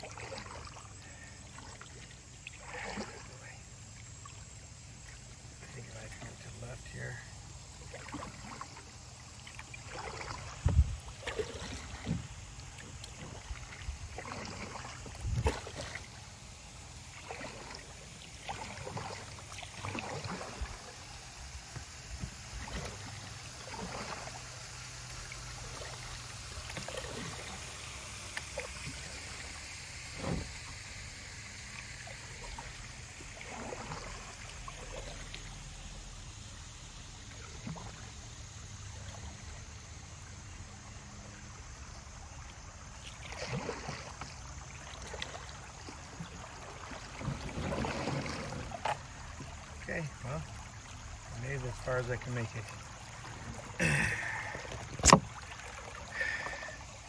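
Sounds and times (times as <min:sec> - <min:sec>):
flowing creek water: 0:00.0 - 0:57.0
paddle strokes in water: 0:00.0 - 0:57.0.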